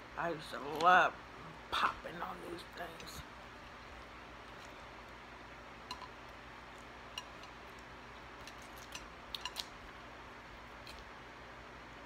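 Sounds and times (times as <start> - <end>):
low background hiss: 0.0 - 12.0.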